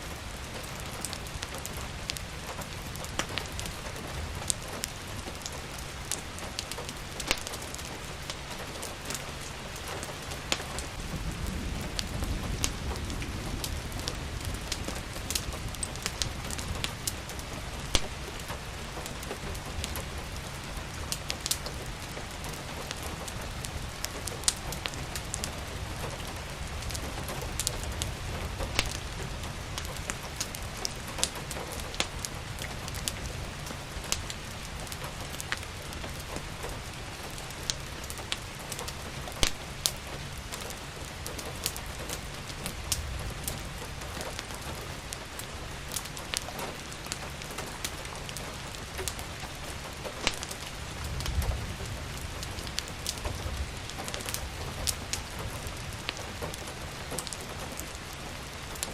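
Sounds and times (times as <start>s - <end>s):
steady rain: 0.0s - 58.9s
wood fire crackling and popping: 0.0s - 58.9s.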